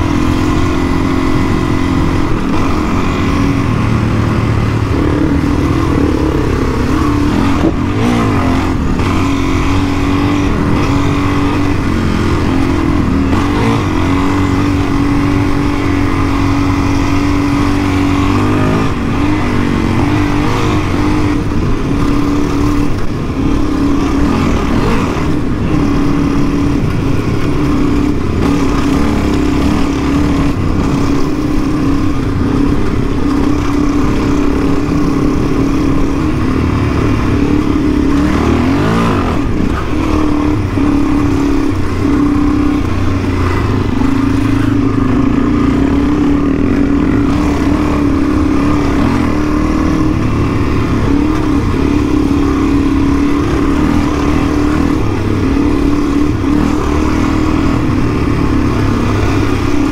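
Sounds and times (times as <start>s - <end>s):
dirt bike engine revving: 0.0s - 59.9s
wind noise rumble: 0.0s - 59.9s.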